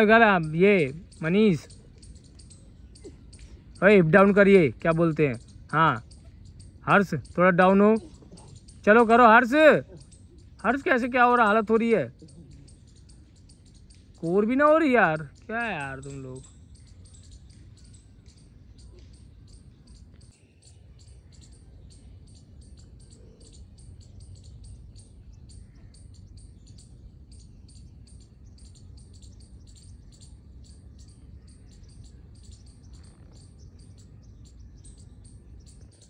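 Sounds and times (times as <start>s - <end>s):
fast high chirps: 0.0s - 36.0s.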